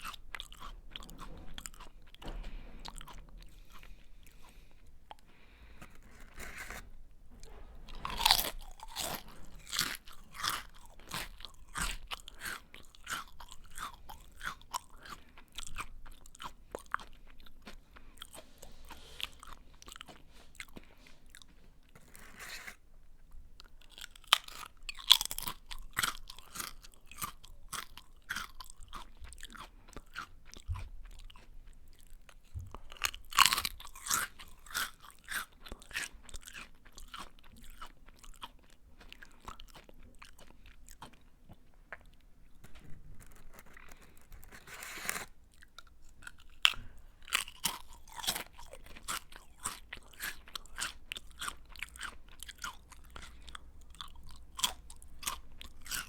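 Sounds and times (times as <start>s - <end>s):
person chewing crunchy snack: 0.0s - 6.9s, 7.9s - 22.8s, 23.6s - 56.0s.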